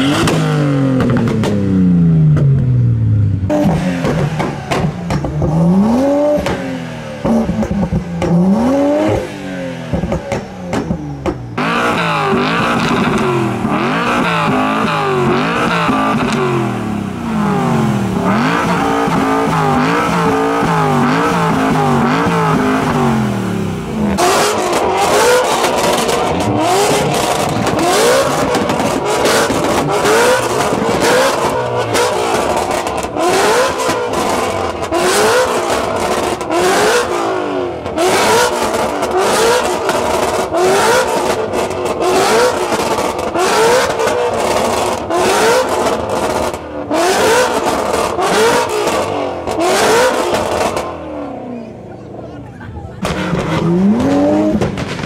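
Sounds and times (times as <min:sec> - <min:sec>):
exhaust pops and crackles: 0:00.0 - 0:02.8, 0:03.5 - 0:09.2, 0:09.9 - 0:16.7, 0:24.0 - 0:51.0, 0:53.0 - 0:55.0
car engine revving: 0:00.0 - 0:55.0.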